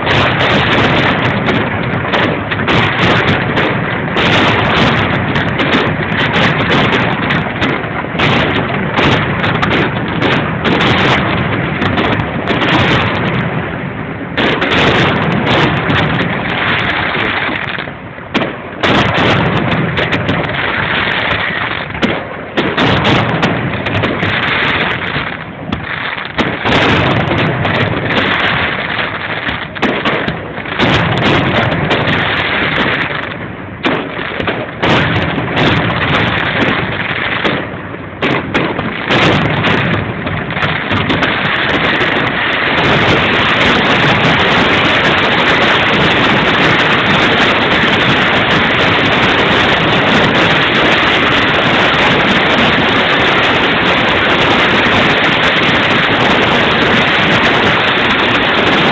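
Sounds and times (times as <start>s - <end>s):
fireworks exploding: 0.0s - 58.9s.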